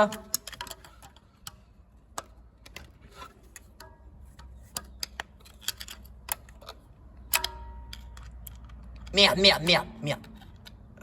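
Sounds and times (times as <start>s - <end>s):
screwdriver clicking on metal parts: 0.0s - 9.3s.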